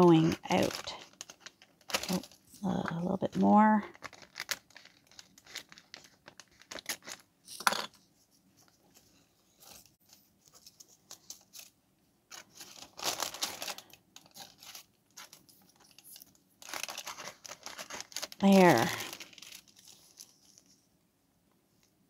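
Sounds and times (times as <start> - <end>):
paper rustling: 0.0 - 3.1, 3.9 - 7.3, 8.2 - 20.9.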